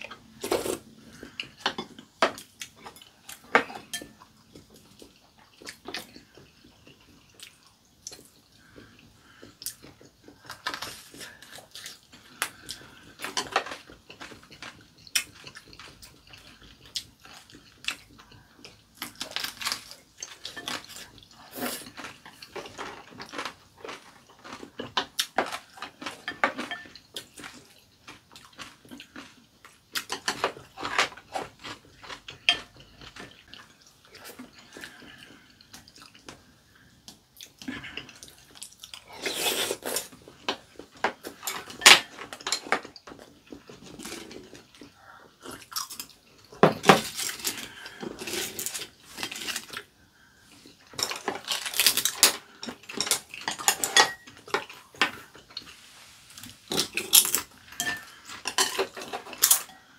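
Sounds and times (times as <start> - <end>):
chewing: 0.0 - 59.9.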